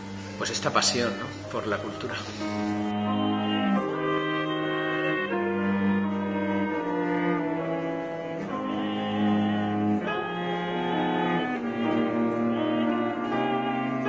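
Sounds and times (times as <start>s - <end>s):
cello: 0.0s - 14.0s
clarinet: 0.0s - 14.0s
piano: 0.0s - 14.0s.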